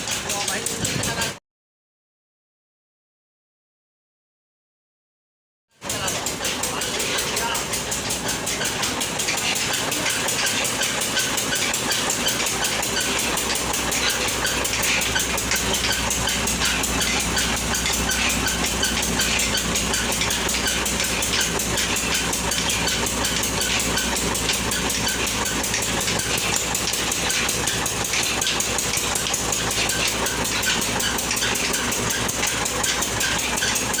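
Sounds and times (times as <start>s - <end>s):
electric flour mill clattering: 0.0s - 1.4s, 5.8s - 34.0s.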